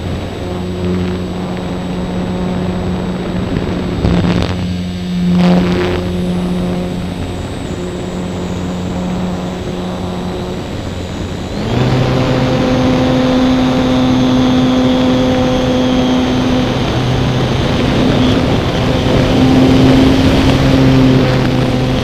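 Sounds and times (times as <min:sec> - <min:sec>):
electric motor and propeller: 0:00.0 - 0:22.0
wind rush: 0:00.0 - 0:22.0.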